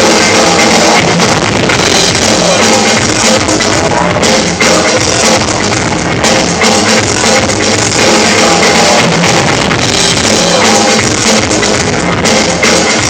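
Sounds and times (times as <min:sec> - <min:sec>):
distorted rock music over speakers: 0:00.0 - 0:13.0.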